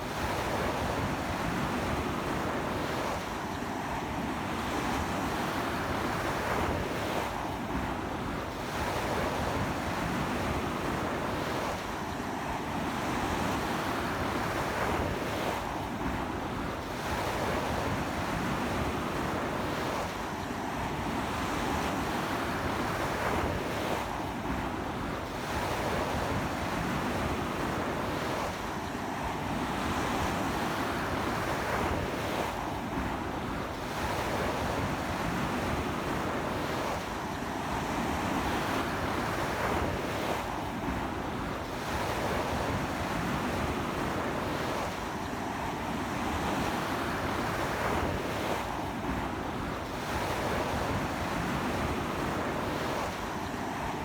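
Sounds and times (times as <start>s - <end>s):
sea wind: 0.0s - 54.0s.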